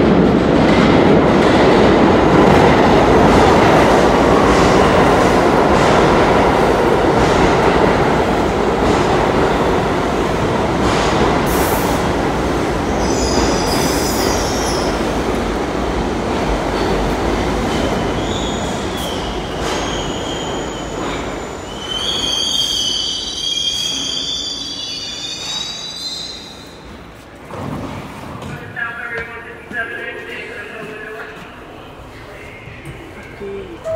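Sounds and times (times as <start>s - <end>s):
subway train rumble: 0.0s - 33.9s.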